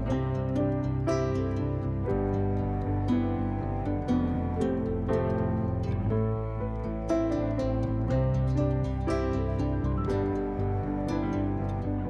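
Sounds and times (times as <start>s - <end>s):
gentle instrumental music: 0.0s - 12.0s
plucked guitar-like notes: 0.0s - 12.0s.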